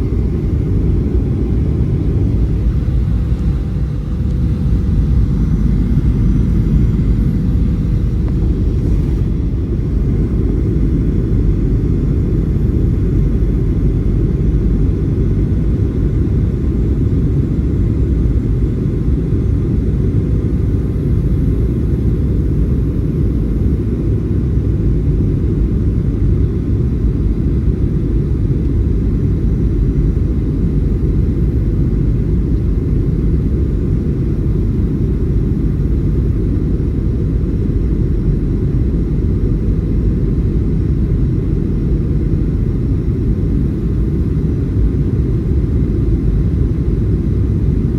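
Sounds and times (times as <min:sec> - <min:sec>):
airplane cabin engine rumble: 0:00.0 - 0:47.9
faint steady hum: 0:00.0 - 0:47.9.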